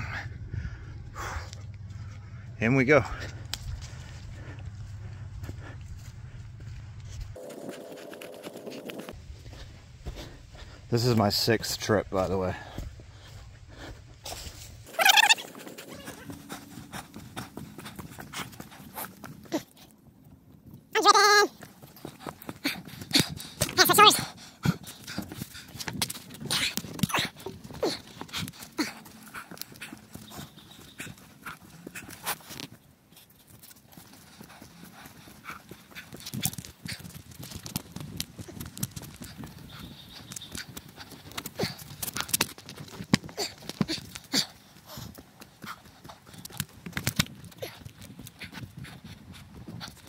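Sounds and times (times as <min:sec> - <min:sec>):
person panting heavily: 0:00.0 - 0:07.1, 0:08.6 - 0:10.9, 0:12.5 - 0:14.7, 0:15.3 - 0:19.9, 0:21.6 - 0:50.0
footsteps on dirt trail: 0:00.0 - 0:50.0.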